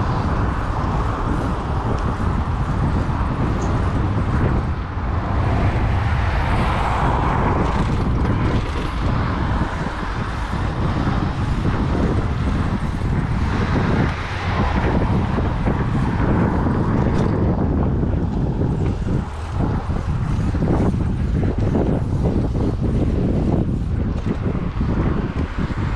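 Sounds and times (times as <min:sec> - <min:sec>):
traffic and road noise: 0:00.0 - 0:25.9
wind rumbling on microphone: 0:00.0 - 0:25.9.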